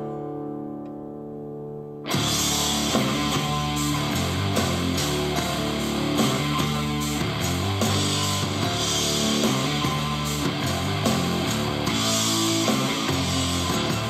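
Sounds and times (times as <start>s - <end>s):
rock music with guitars: 0.0s - 14.0s.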